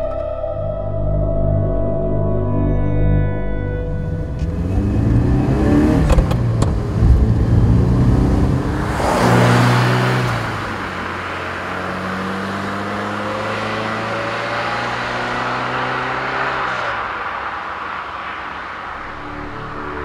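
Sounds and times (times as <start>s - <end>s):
car engine under load: 3.8s - 20.0s.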